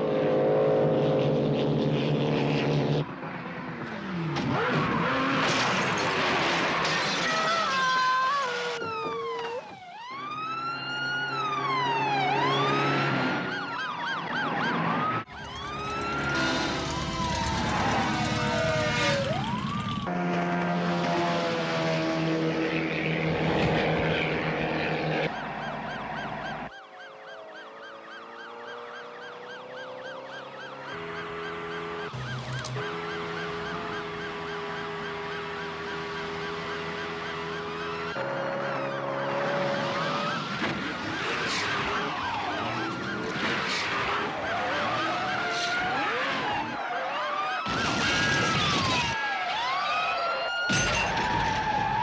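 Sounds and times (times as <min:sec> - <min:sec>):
police siren wailing: 0:03.4 - 0:52.0.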